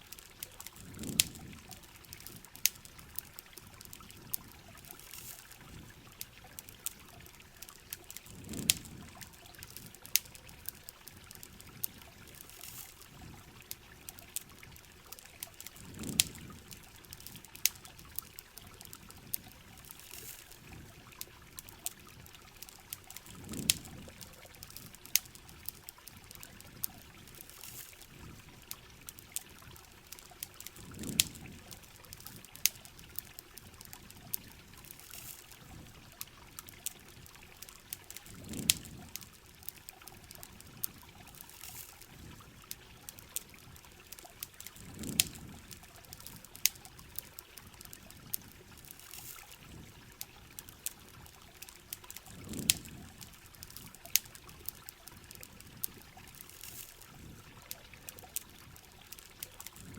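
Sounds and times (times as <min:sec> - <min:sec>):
campfire crackling: 0:00.0 - 0:59.9
water pouring and trickling: 0:00.0 - 0:59.9.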